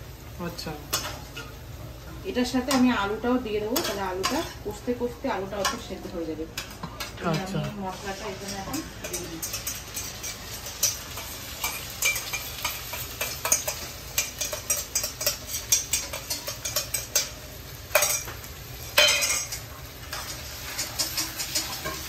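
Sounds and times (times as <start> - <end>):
frying sizzle: 0.0 - 22.0
metal spatula scraping wok: 0.9 - 1.7, 2.6 - 22.0.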